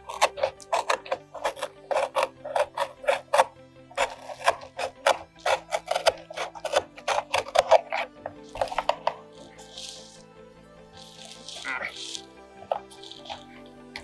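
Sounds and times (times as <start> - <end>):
knife scraping through cardboard: 0.0 - 14.0.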